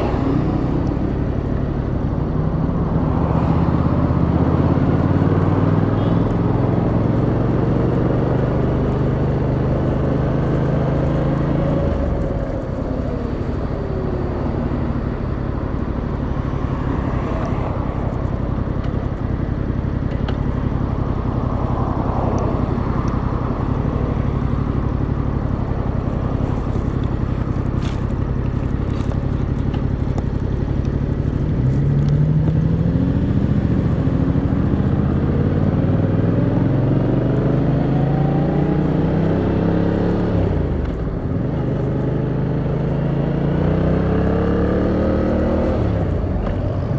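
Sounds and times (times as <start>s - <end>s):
motorcycle engine: 0.0s - 46.9s.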